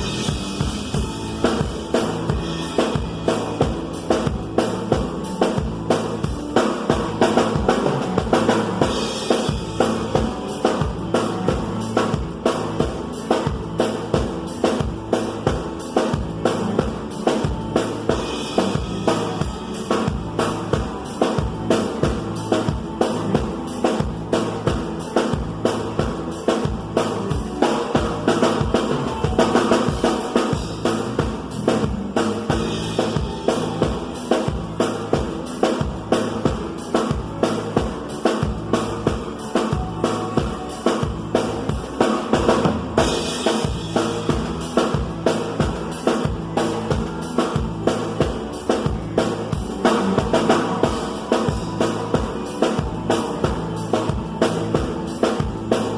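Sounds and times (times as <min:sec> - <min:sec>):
bass drum and snare beat: 0:00.0 - 0:55.9
live band music: 0:00.0 - 0:55.9.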